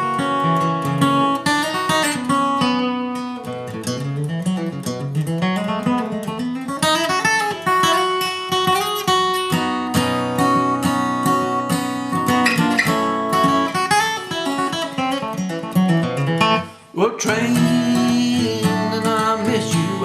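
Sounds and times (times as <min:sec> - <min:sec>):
acoustic guitar flatpicking: 0:00.0 - 0:20.0.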